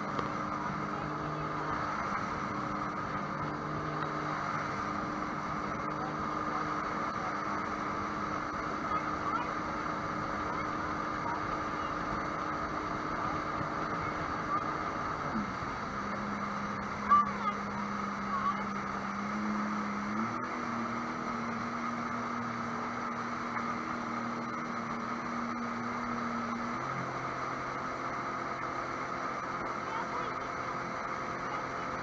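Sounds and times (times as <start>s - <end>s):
boat engine running: 0.0s - 32.0s
water rushing: 0.0s - 32.0s
wind: 0.0s - 32.0s.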